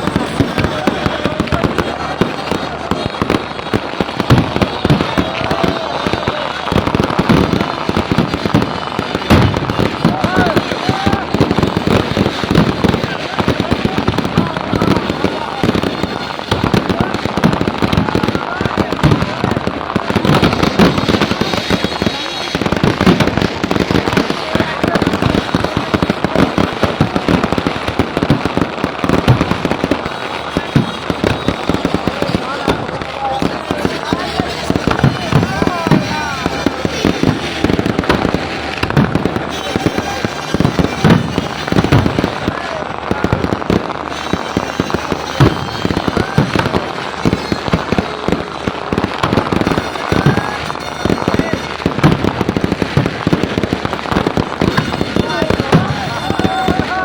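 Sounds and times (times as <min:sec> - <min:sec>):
firecrackers crackling: 0:00.0 - 0:57.0
loud firework bang: 0:00.0 - 0:57.0.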